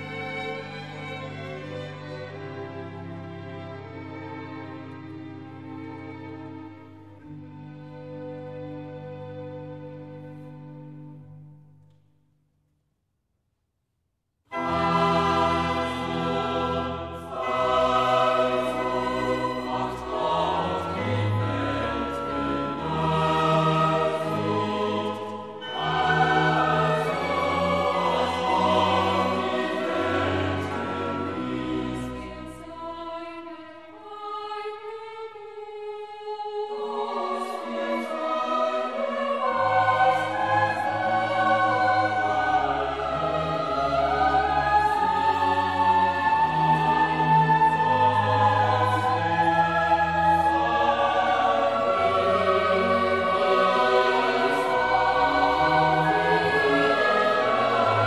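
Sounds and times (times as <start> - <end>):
choir singing with orchestra: 0.0 - 10.9, 14.5 - 58.0.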